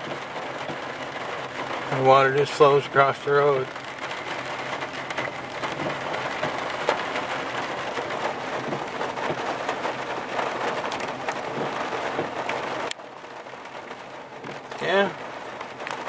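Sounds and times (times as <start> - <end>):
rain on a vehicle: 0.0 - 16.0.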